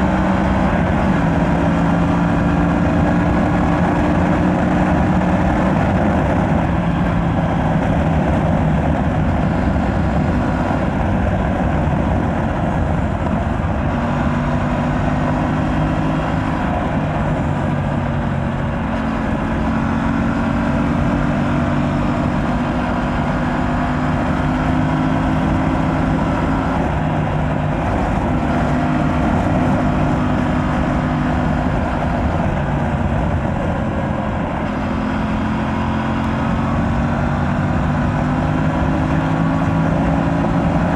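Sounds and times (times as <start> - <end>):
motorcycle engine revving: 0.0 - 40.9
rushing wind: 0.0 - 40.9.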